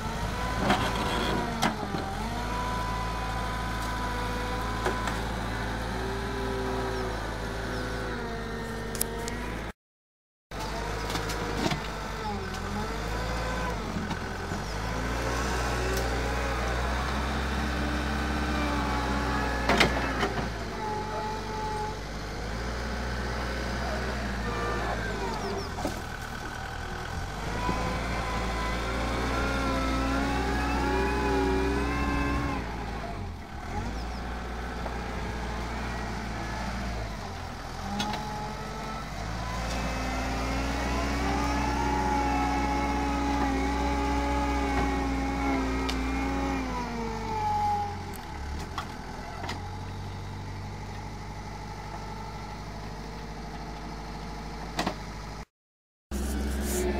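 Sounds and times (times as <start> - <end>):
wheel loader diesel engine under load: 0.0 - 9.8, 10.5 - 55.5, 56.1 - 56.9.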